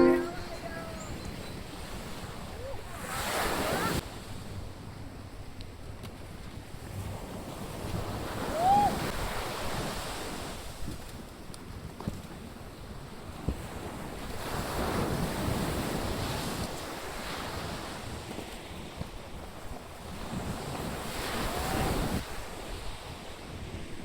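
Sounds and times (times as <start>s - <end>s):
waves breaking on beach: 1.0s - 4.5s, 6.8s - 24.0s.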